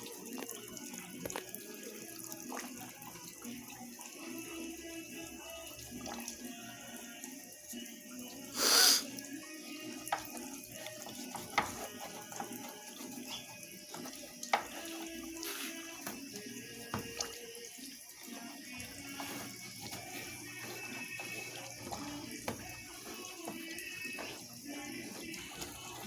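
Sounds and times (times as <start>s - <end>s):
water running into washing machine: 0.0s - 26.0s.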